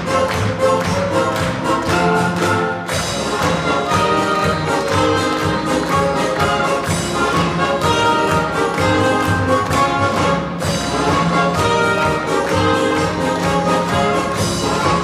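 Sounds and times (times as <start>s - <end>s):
orchestral music strings and brass: 0.0s - 15.0s.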